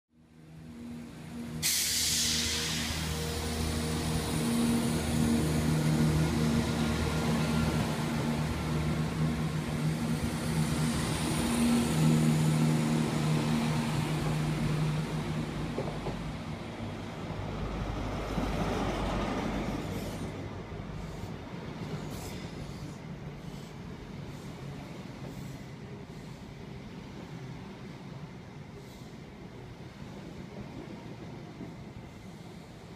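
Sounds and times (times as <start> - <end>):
diesel train engines humming: 0.3 - 32.9
train coaches rumbling past: 0.3 - 32.9.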